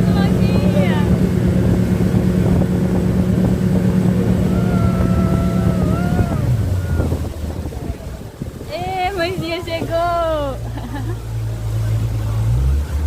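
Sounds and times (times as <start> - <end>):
boat motor running: 0.0 - 13.0
wind and water noise: 0.0 - 13.0.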